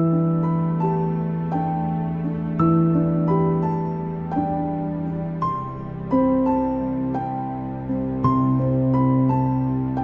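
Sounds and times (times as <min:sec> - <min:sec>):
soft slow background music: 0:00.0 - 0:10.0.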